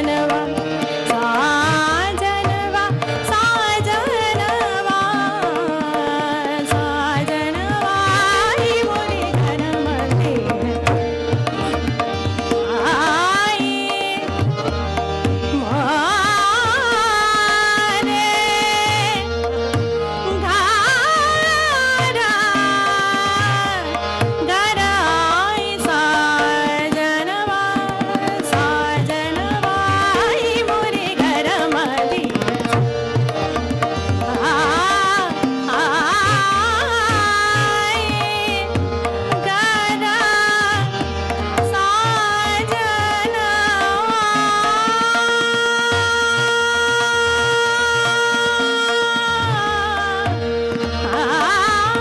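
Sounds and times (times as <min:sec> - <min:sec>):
harmonium: 0:00.0 - 0:52.0
tabla strokes: 0:00.0 - 0:52.0
tanpura drone: 0:00.0 - 0:52.0
woman singing: 0:00.0 - 0:52.0.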